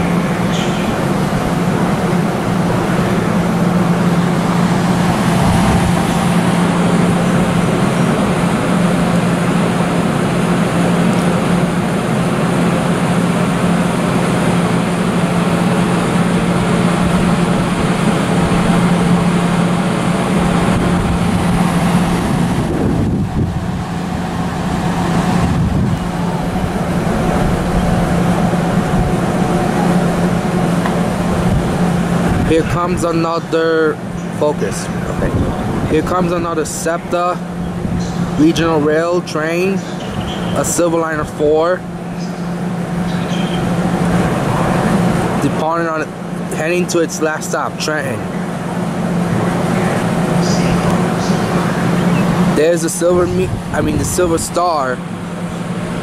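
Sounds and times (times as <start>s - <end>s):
constant low hum: 0.0s - 56.0s
train running noise: 0.0s - 56.0s.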